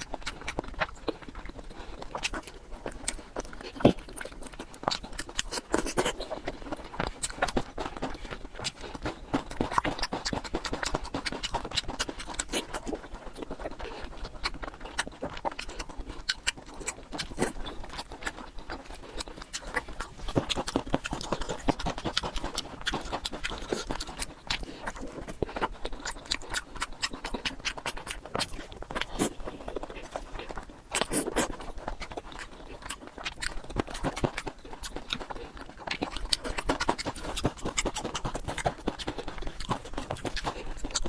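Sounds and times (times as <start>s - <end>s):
person chewing and lip smacking: 0.0s - 41.0s.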